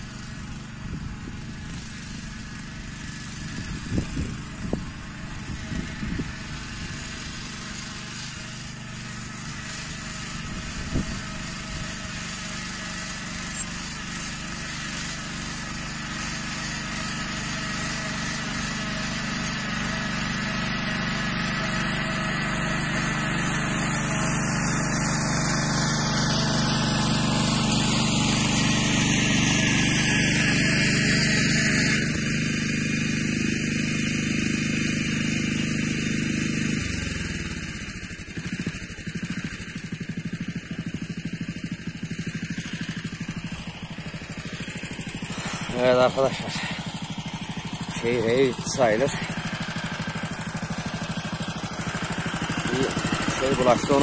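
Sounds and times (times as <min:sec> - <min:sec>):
walking tractor engine tilling: 0:00.0 - 0:54.0.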